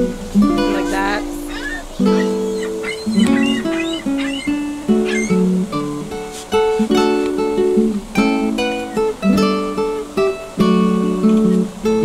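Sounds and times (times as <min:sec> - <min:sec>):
plucked acoustic guitar melody: 0:00.0 - 0:12.0.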